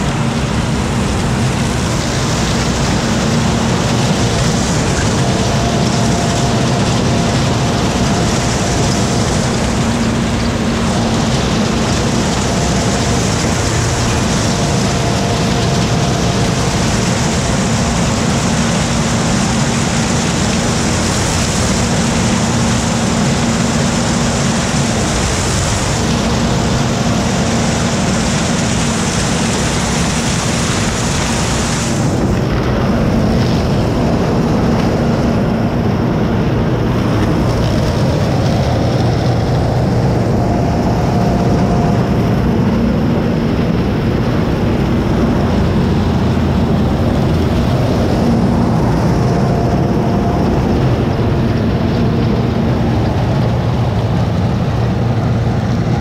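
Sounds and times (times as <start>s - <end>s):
tractor and corn picker running: 0.0s - 56.0s.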